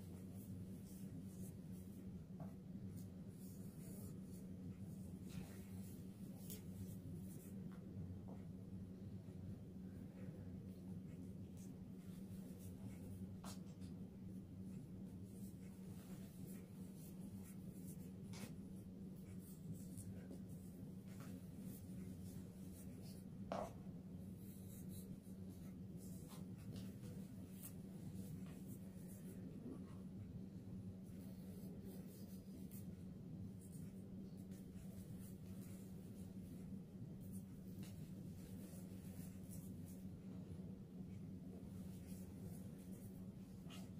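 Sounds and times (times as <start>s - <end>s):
low steady hum: 0.0s - 43.9s.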